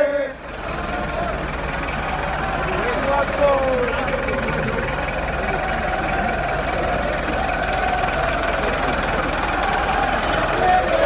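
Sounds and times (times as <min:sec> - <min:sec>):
crowd of supporters marching: 0:00.0 - 0:11.0.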